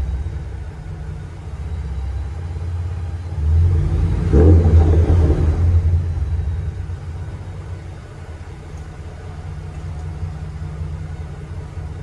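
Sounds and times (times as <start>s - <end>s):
engine exhaust revving and idling: 0.0s - 12.0s.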